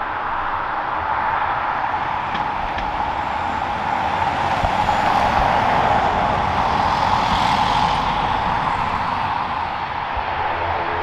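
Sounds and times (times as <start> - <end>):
wind buffeting microphone: 0.0 - 11.0
jet engine roar: 0.1 - 11.0.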